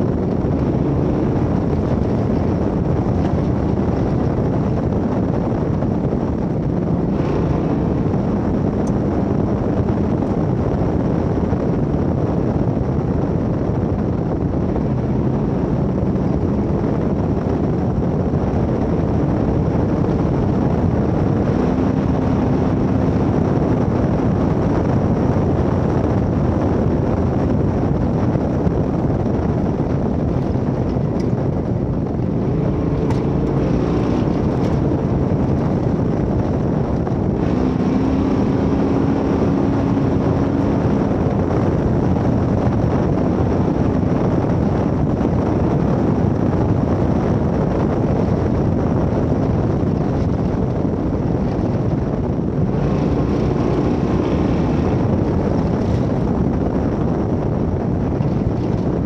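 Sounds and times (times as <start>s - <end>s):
truck engine running: 0.0s - 59.0s
wind and road noise: 0.0s - 59.0s.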